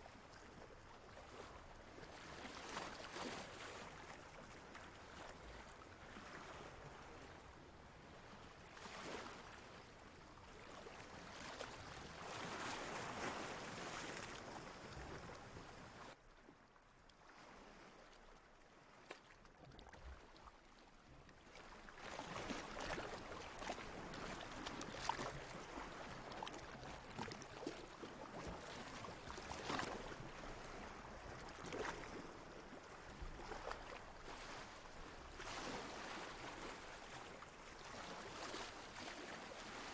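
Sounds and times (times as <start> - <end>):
water lapping and sloshing: 0.0 - 39.9.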